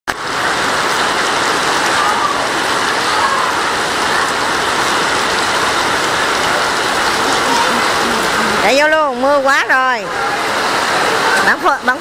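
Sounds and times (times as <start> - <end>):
heavy rain on pavement: 0.1 - 12.0.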